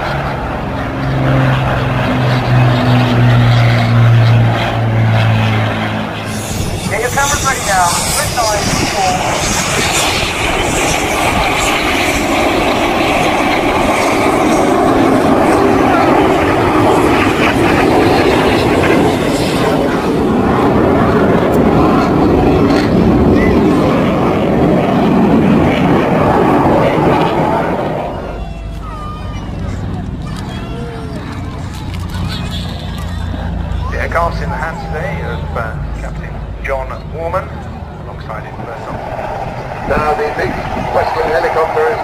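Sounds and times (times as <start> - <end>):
propeller aircraft engine running: 0.0 - 42.0.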